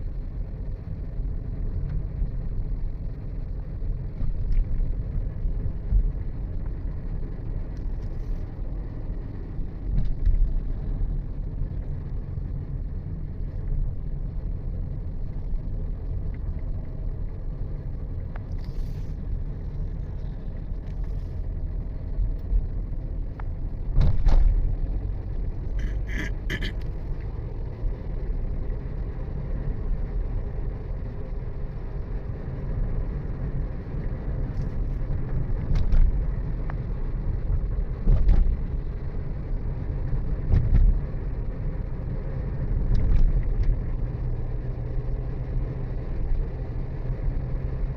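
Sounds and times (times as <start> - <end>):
vehicle driving on road: 0.0 - 47.9.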